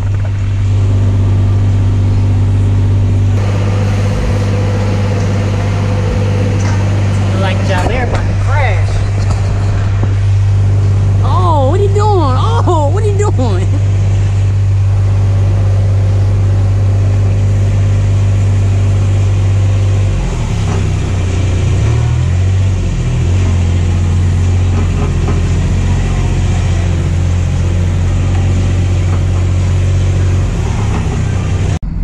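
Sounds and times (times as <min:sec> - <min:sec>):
small engine humming: 0:00.0 - 0:32.0.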